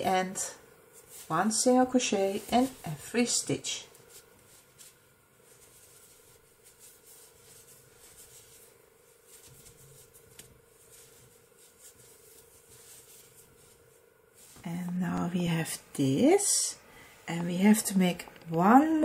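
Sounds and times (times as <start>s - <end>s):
yarn rustling: 0.0s - 16.8s.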